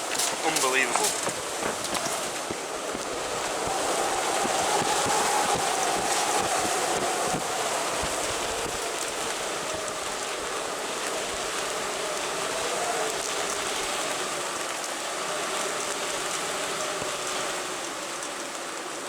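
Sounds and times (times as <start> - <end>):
strong wind on microphone: 0.4 - 17.5.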